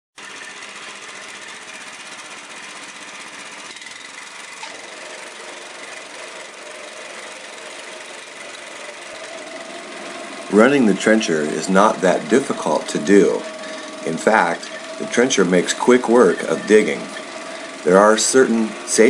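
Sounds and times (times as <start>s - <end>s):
small engine running: 0.2s - 19.0s.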